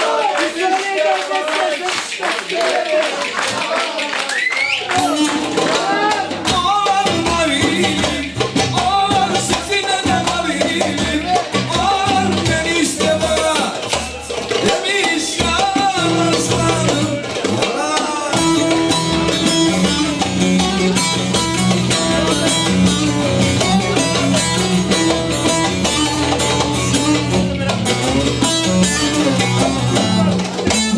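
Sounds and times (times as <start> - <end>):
upbeat music with drums and strings: 2.0 - 30.9.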